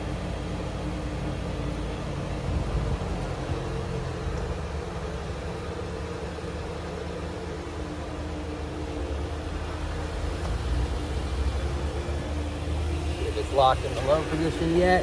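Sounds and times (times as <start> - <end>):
engine idling low rumble: 0.0 - 15.0.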